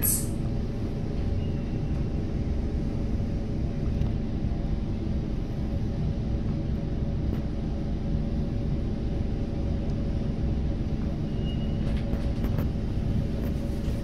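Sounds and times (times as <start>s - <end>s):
metro train humming: 0.0s - 14.0s.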